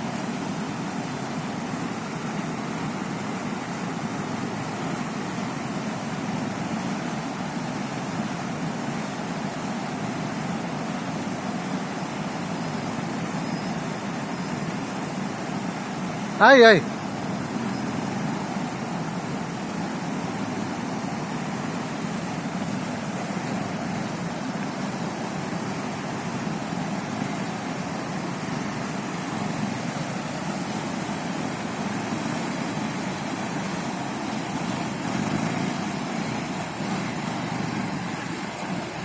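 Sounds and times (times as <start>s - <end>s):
motorcycle engine running: 0.1s - 39.0s.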